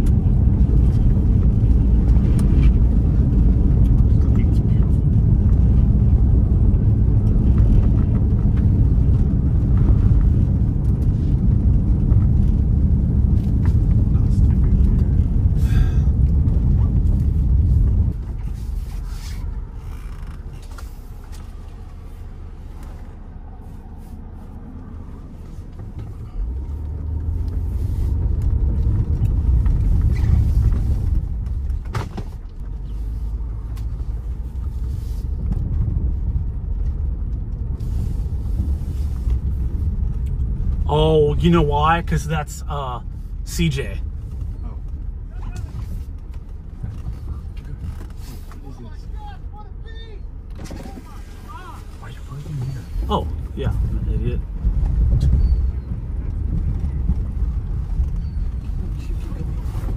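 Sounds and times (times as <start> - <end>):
road and wind rumble in car: 0.0 - 59.9.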